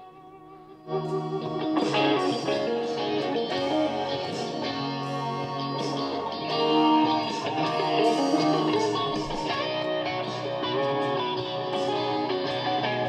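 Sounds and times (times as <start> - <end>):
guitar music from cassette: 0.0 - 13.0.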